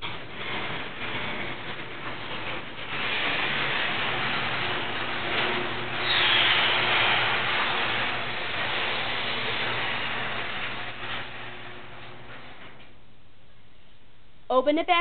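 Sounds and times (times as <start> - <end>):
rushing mechanical noise: 0.0 - 12.6
garage door opener motor hum: 0.0 - 13.2.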